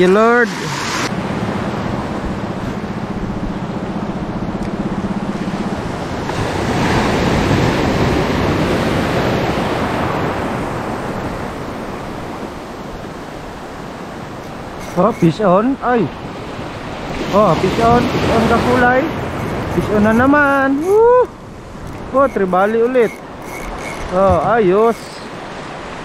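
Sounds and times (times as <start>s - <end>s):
sea waves washing: 0.0s - 26.0s
wind on microphone: 0.0s - 26.0s.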